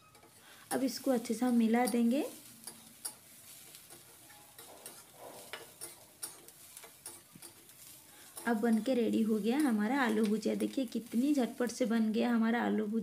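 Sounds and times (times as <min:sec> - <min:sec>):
spatula scraping a metal wok: 0:00.0 - 0:11.8
faint frying sizzle: 0:00.0 - 0:13.0.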